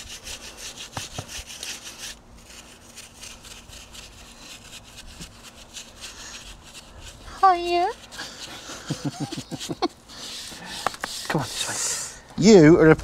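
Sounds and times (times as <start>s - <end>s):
bristle brush scrubbing chain: 0.0s - 12.2s.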